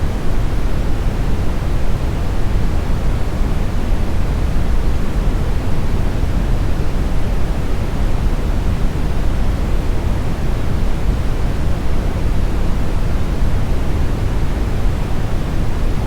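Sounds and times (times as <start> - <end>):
brown noise hiss: 0.0 - 16.0.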